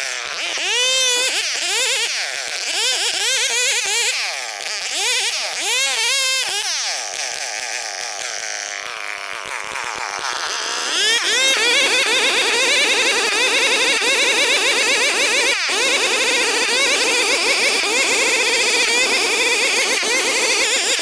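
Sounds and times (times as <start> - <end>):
chainsaw cutting log: 0.0 - 21.0.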